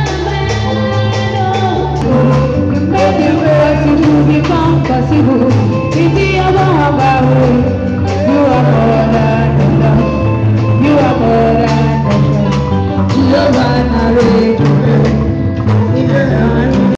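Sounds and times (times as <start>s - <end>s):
bass guitar: 0.0s - 16.9s
drums: 0.0s - 16.9s
electronic keyboard: 0.0s - 16.9s
woman singing into a microphone: 0.0s - 16.9s.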